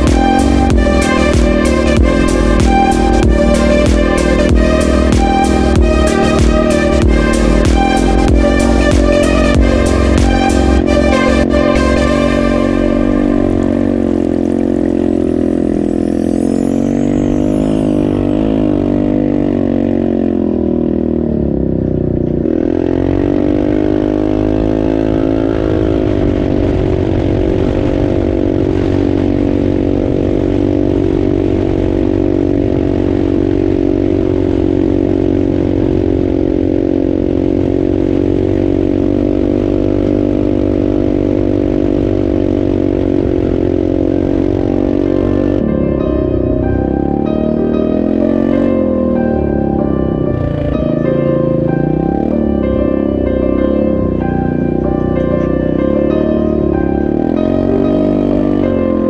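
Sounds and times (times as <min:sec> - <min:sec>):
engine revving at high revs: 0:00.0 - 0:28.0, 0:29.4 - 0:59.0.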